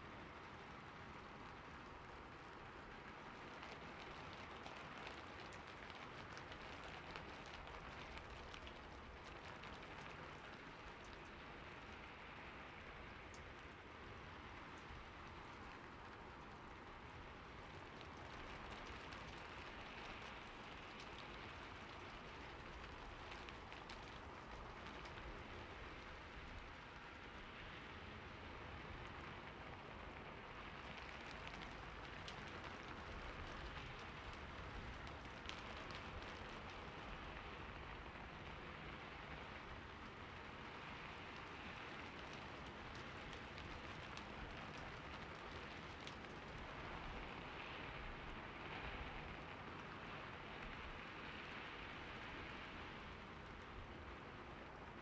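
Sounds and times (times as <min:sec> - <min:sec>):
rain falling on a roof: 0:00.0 - 0:55.0.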